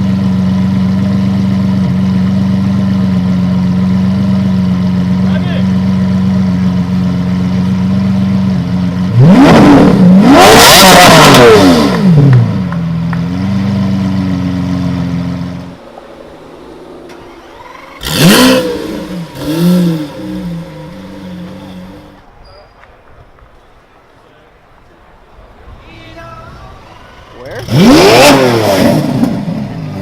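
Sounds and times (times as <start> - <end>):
sports car engine revving: 0.0 - 22.2, 27.2 - 30.0.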